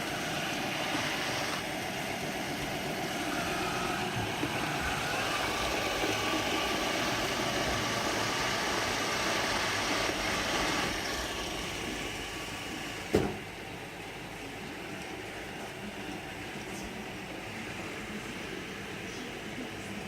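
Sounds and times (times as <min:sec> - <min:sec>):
robot vacuum cleaner running: 0:00.0 - 0:20.0.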